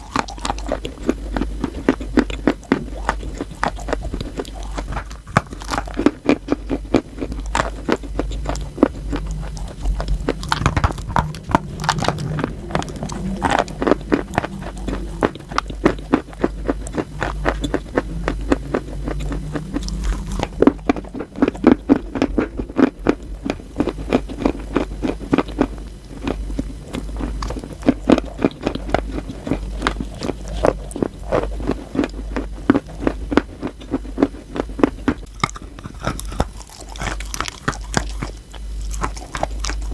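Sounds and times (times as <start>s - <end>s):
chalk being chewed crunching: 0.0s - 39.9s
steady low hum: 0.0s - 39.9s.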